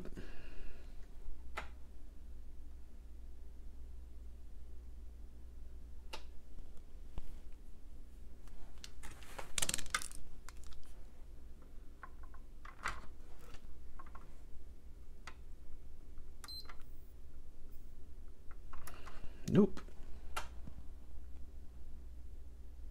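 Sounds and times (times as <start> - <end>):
low hum: 0.0 - 8.8, 13.4 - 22.9.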